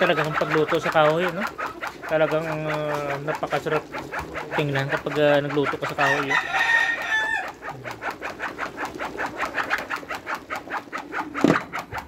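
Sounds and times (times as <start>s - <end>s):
steady pulsing: 0.0s - 12.0s.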